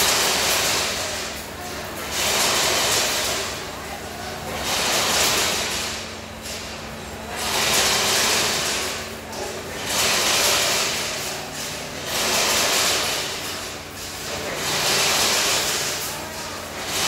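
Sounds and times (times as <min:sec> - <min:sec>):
pedestal fans rushing air: 0:00.0 - 0:17.0.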